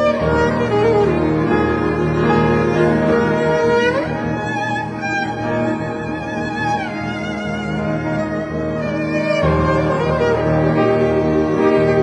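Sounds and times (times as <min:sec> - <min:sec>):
bowed strings music: 0:00.0 - 0:12.0.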